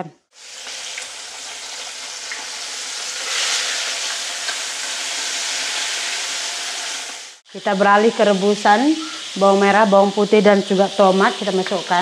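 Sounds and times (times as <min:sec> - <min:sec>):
fish sizzling in hot oil: 0:00.3 - 0:12.0.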